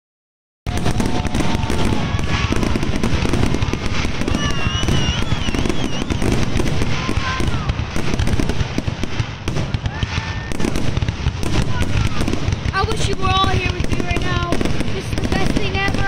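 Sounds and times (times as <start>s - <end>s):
fireworks bangs and crackles: 0.7s - 16.0s
fireworks whistles: 0.7s - 16.0s.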